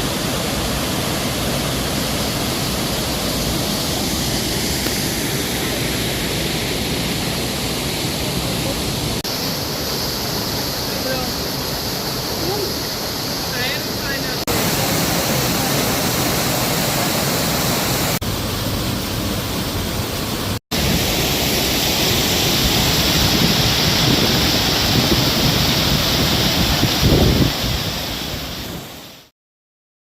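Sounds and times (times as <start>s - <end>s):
waterfall rushing: 0.0s - 29.3s.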